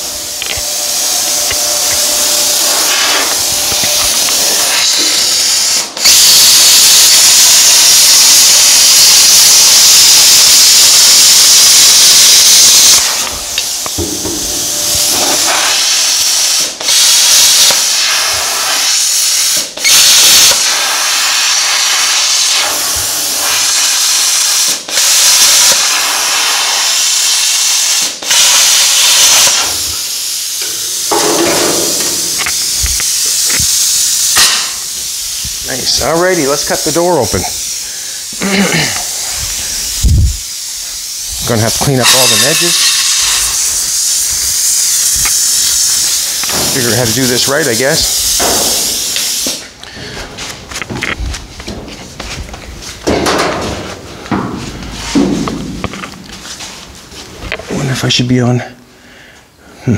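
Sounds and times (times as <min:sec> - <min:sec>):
plasma cutter hissing: 0:00.0 - 0:57.5.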